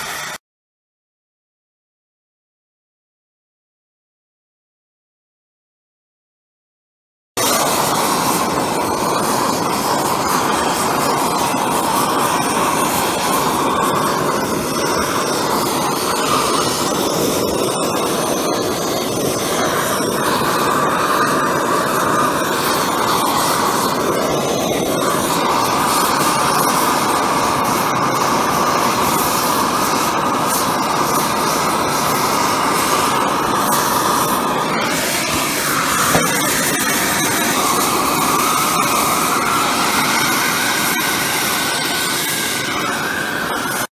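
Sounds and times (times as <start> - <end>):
torch flame hissing: 0.0 - 0.4, 7.4 - 43.9.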